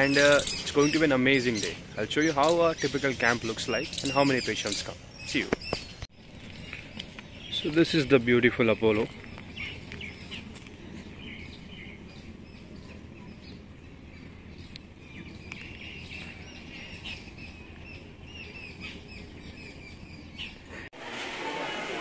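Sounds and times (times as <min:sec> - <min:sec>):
low outdoor rumble: 0:00.0 - 0:20.8
small birds chirping: 0:00.0 - 0:20.9.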